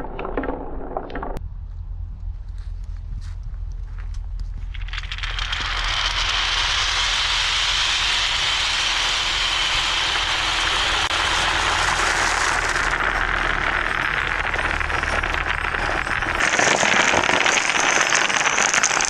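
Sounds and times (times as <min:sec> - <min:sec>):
marbles rolling along track: 0:00.0 - 0:01.4, 0:04.6 - 0:19.0.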